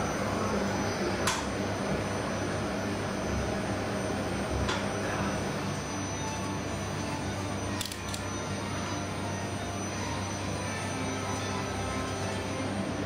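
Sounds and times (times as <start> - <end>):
gondola mechanical hum: 0.0 - 13.0.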